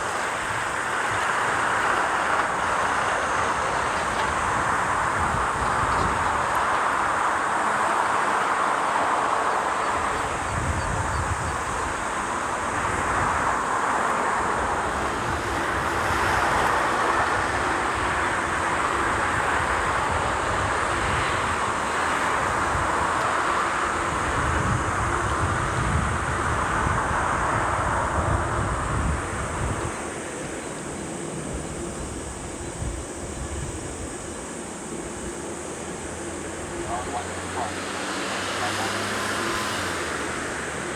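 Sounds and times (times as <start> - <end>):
wind gusting on microphone: 0.0 - 40.9.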